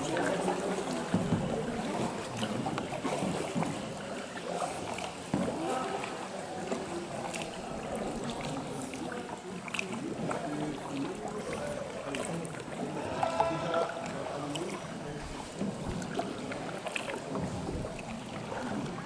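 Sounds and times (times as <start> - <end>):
faint voices: 0.0 - 19.0
paddle splashes: 0.0 - 19.0
water sloshing around kayak: 0.0 - 19.0.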